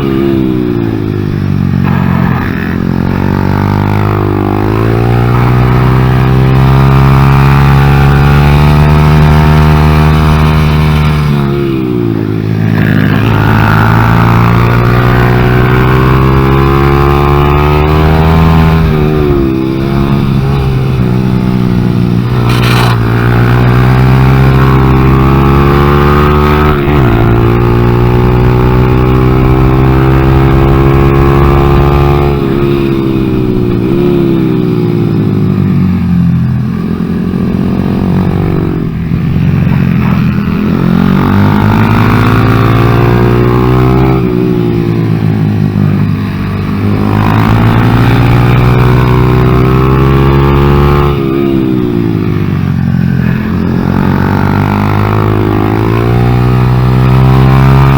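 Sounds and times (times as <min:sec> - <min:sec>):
motorcycle engine revving under load: 0:00.0 - 0:57.9.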